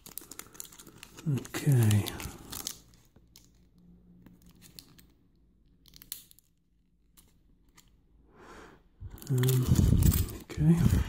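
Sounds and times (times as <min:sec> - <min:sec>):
small objects clicking and rustling: 0:00.0 - 0:08.0, 0:09.1 - 0:11.0.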